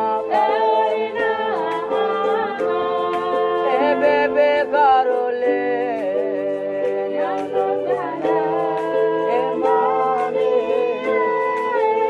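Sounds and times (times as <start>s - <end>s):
person singing over held chords: 0.0s - 12.0s.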